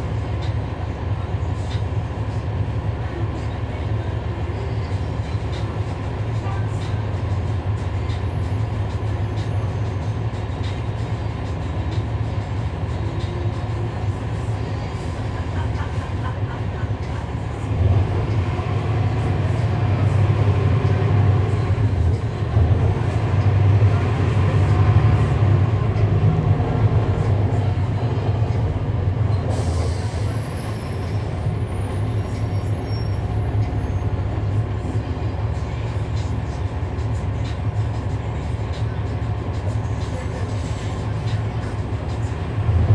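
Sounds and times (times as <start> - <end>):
bus diesel engine drone: 0.0 - 42.9.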